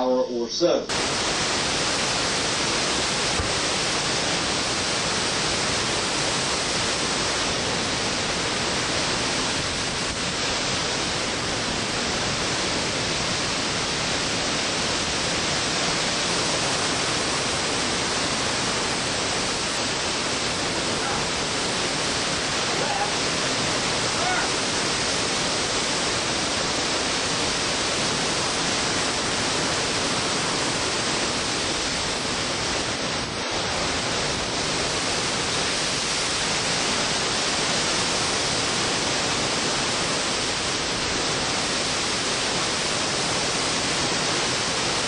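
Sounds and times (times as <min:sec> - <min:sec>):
heavy wind-driven rain: 0:00.9 - 0:45.0
hurricane wind: 0:00.9 - 0:45.0.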